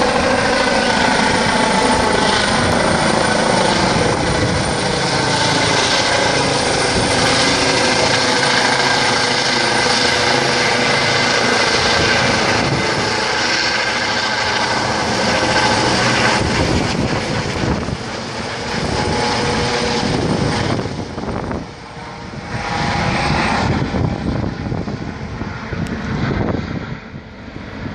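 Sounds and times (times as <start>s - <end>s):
helicopter rotor and turbine: 0.0s - 27.9s.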